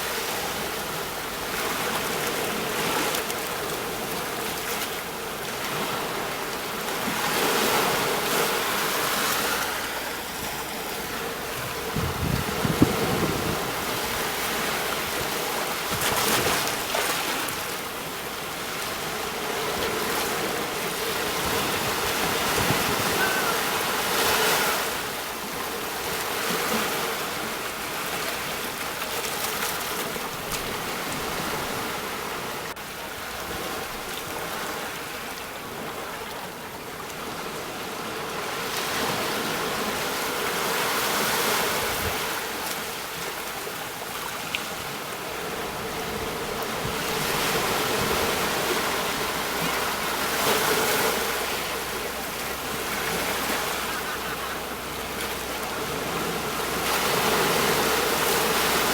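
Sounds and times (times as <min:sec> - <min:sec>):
sea waves breaking on shore: 0:00.0 - 0:58.9.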